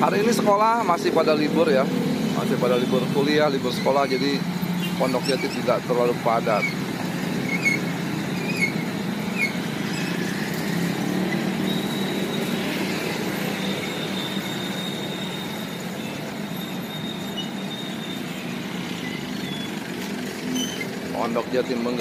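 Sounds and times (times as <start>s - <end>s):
traffic crossing rails: 0.0s - 22.0s.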